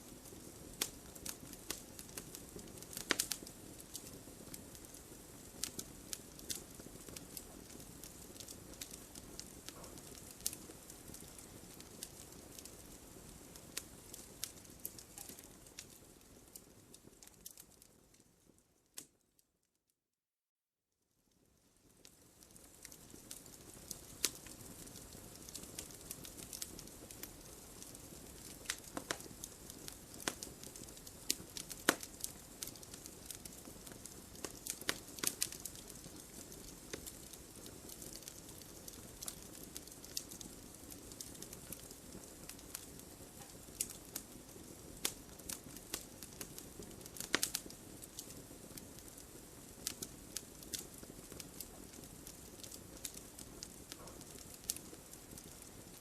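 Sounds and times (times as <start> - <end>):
wood fire crackling and popping: 0.0 - 19.2, 21.3 - 56.0.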